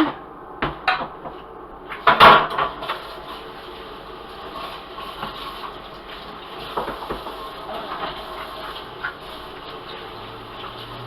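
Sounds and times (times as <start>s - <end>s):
kitchen clatter: 0.0s - 11.0s
steady hiss: 1.4s - 11.0s.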